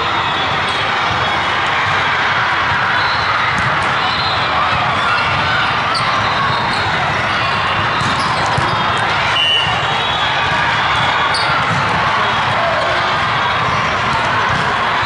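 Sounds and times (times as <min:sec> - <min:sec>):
crowd voices in hall: 0:00.0 - 0:15.0
volleyballs struck and bouncing: 0:00.4 - 0:15.0.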